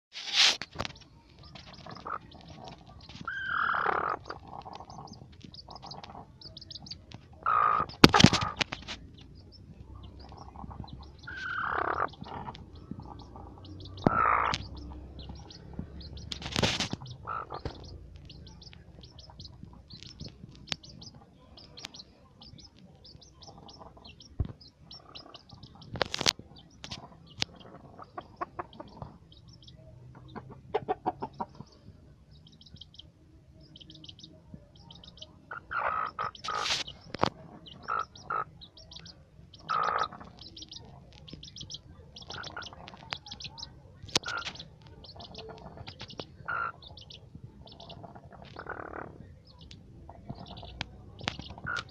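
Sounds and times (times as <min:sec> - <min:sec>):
chick peeping: 0:00.7 - 0:51.9
hen clucking: 0:00.8 - 0:33.1, 0:33.7 - 0:51.9.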